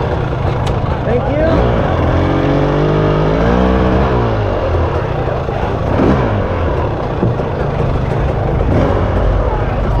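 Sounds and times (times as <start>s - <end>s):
dirt bike engine: 0.0s - 10.0s
steady dense noise: 0.0s - 10.0s.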